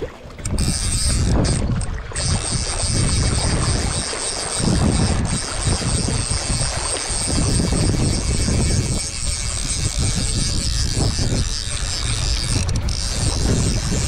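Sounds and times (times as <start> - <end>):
river water splashing: 0.0 - 14.0
wind buffeting microphone: 0.0 - 14.0.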